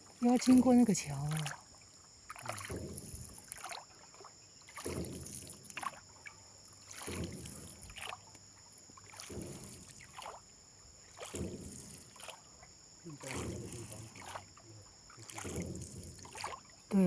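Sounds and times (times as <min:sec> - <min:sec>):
oars splashing through water: 0:00.0 - 0:17.0.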